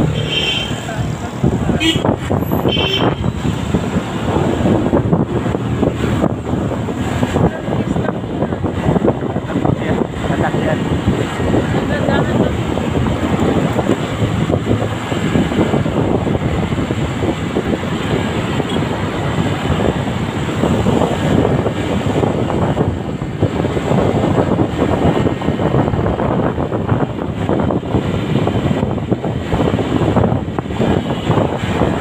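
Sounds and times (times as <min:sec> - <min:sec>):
motorcycle running: 0:00.0 - 0:32.0
road noise: 0:00.0 - 0:32.0
wind buffeting microphone: 0:00.0 - 0:32.0.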